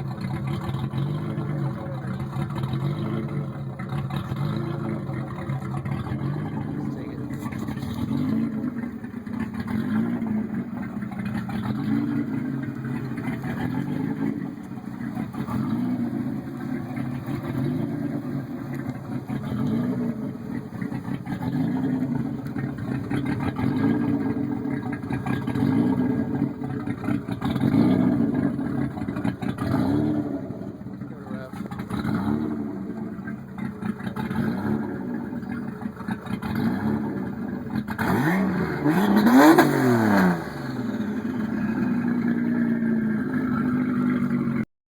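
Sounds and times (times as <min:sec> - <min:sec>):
car engine revving: 0:00.0 - 0:44.7.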